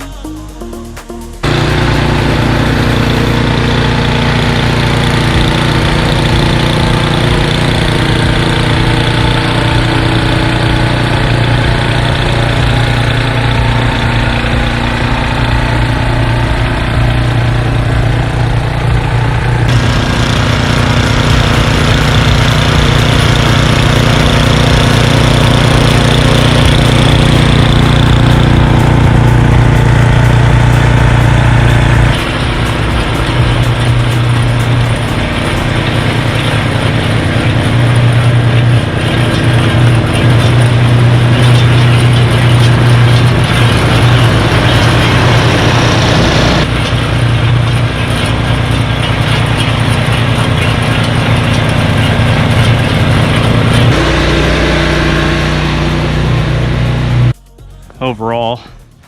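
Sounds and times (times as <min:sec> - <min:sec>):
snow blower engine running: 0:00.0 - 0:57.4.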